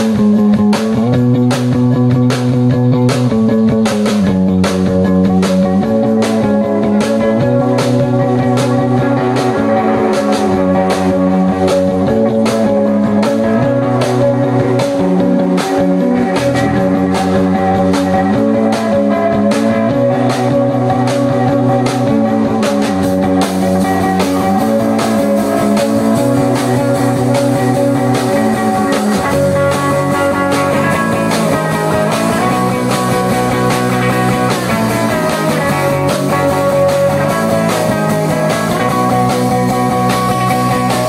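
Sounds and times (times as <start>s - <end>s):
drum kit beat: 0.0s - 41.0s
electric guitars playing: 0.0s - 41.0s.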